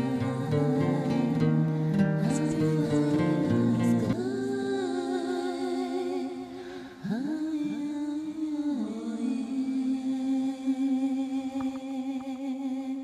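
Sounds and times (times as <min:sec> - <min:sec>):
soft music: 0:00.0 - 0:13.0
woman singing wordless notes: 0:00.0 - 0:13.0.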